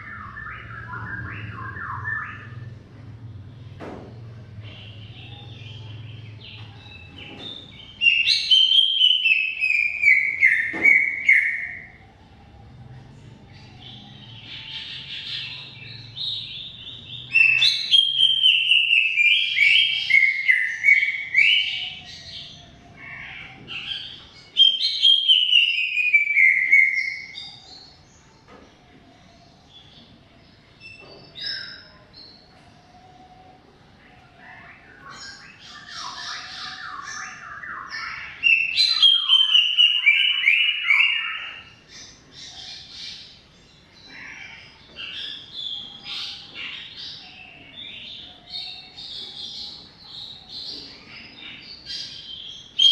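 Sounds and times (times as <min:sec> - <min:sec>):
bird singing descending phrases: 0:00.0 - 0:52.9.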